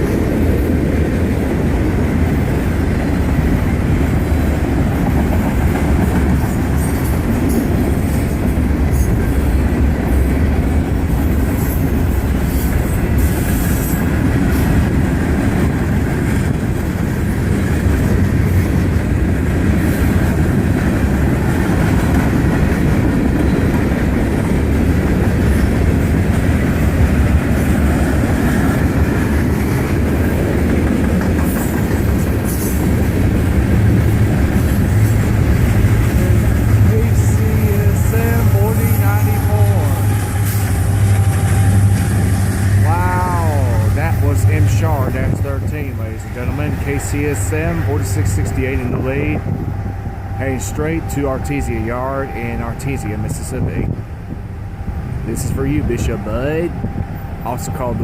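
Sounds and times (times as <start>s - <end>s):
train wheels clacking on rails: 0.0s - 53.7s.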